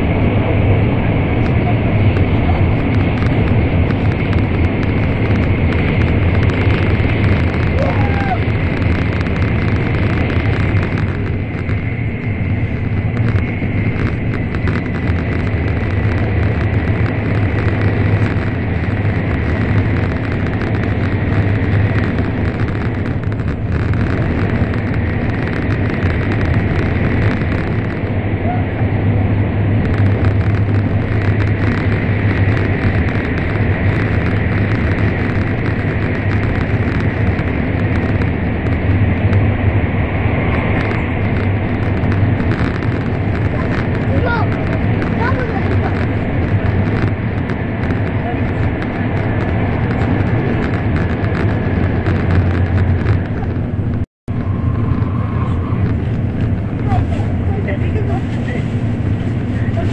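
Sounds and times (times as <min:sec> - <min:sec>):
train cabin rumble and hum: 0:00.0 - 0:59.9.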